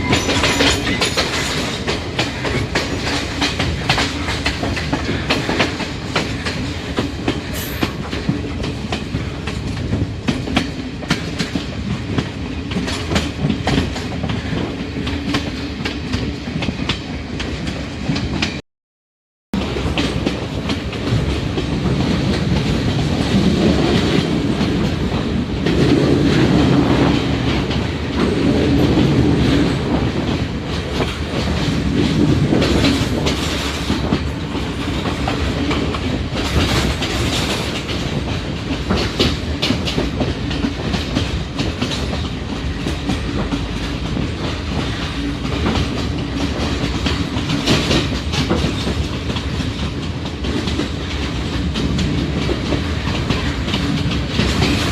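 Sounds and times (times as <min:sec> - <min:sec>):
train rumbling: 0:00.0 - 0:18.6, 0:19.6 - 0:54.9
wheels clicking over rail joints: 0:00.0 - 0:18.6, 0:19.6 - 0:54.9.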